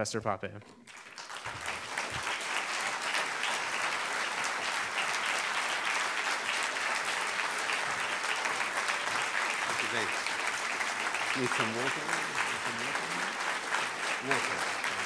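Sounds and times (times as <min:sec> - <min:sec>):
large audience applauding: 0:00.8 - 0:15.0.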